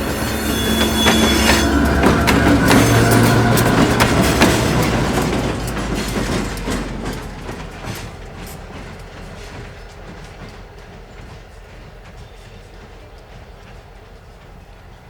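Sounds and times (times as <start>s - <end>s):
wheels clicking over rail joints: 0.0s - 14.9s
train rolling past: 0.0s - 15.0s.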